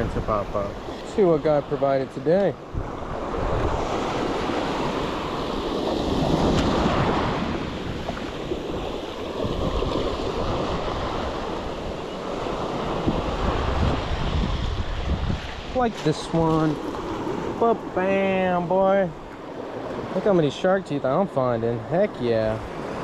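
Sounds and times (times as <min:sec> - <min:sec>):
wind on microphone: 0:00.0 - 0:01.1, 0:02.6 - 0:20.2
ocean surf washing up beach: 0:00.0 - 0:23.0.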